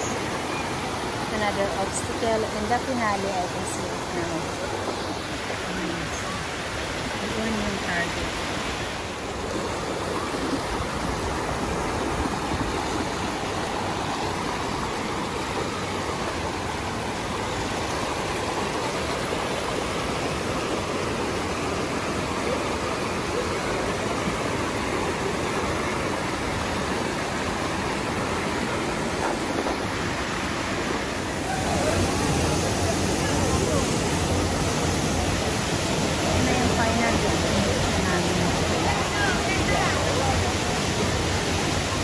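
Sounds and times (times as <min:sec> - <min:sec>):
creek water rushing over boulders: 0:00.0 - 0:42.0.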